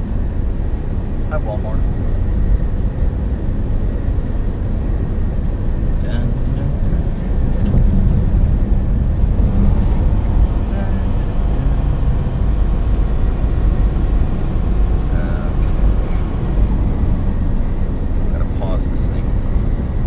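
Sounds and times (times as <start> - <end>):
road noise: 0.0 - 20.0
truck engine low rumble: 0.0 - 20.0.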